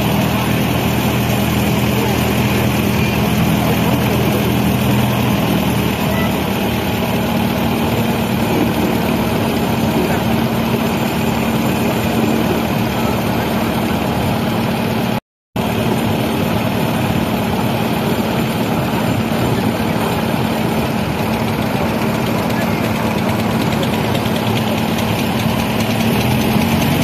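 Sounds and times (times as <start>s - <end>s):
motorboat engine humming: 0.0s - 27.0s.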